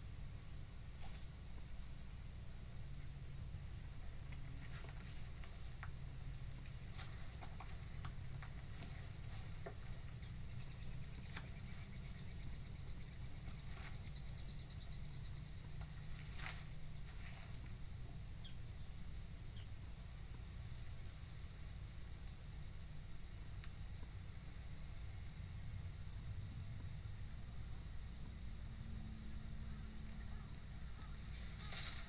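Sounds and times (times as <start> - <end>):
insects chirping: 0.0 - 32.0
steady low hum: 0.0 - 32.0.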